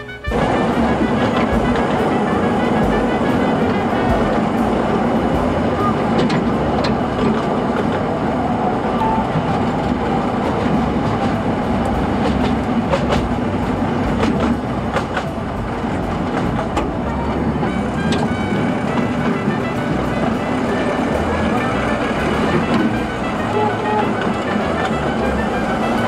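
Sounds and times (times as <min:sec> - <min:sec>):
train rumbling on track: 0:00.0 - 0:26.0
wheels clicking over rails: 0:02.8 - 0:26.0.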